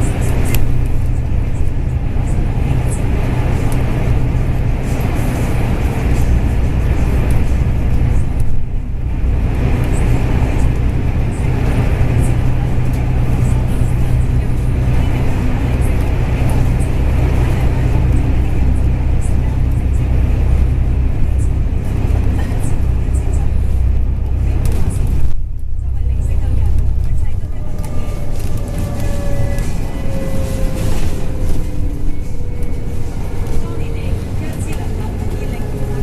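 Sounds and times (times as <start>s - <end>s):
bus diesel engine drone: 0.0s - 36.0s
road and cabin noise: 0.0s - 36.0s.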